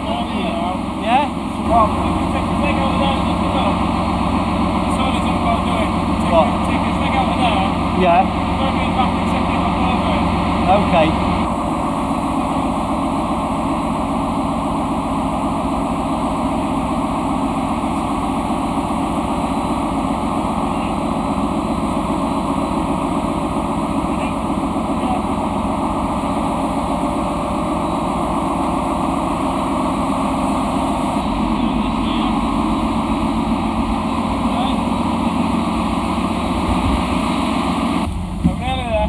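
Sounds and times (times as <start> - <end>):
ship's machinery droning: 0.0 - 38.8.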